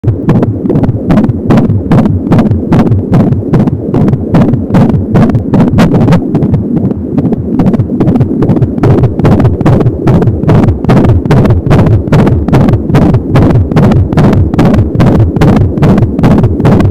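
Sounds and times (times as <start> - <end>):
continuous low swishing: 0.0 - 16.9
fast fetal heartbeat pulse: 0.0 - 16.9.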